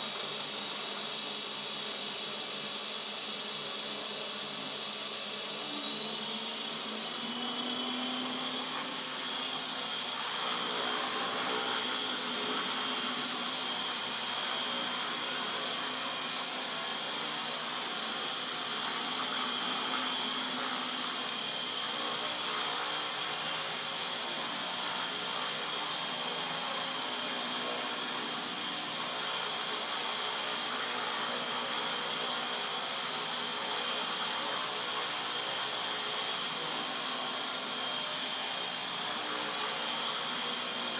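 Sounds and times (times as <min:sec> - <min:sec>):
model helicopter motor whine: 0:00.0 - 0:40.9.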